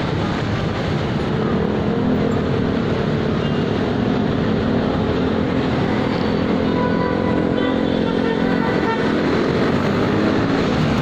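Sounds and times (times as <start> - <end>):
engine hum: 0.0 - 11.0
road traffic: 0.0 - 11.0.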